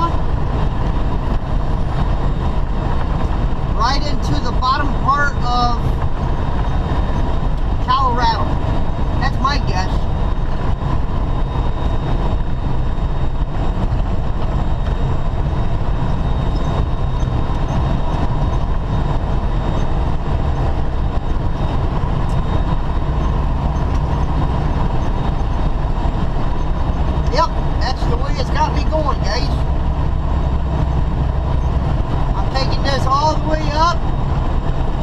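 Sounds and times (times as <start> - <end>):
road noise: 0.0 - 35.0
truck diesel engine drone: 0.0 - 35.0.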